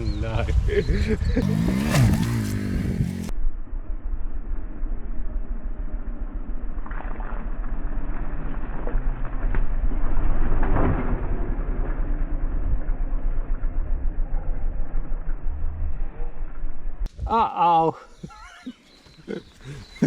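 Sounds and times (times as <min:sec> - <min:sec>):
motorcycle engine rumble: 0:00.0 - 0:17.5.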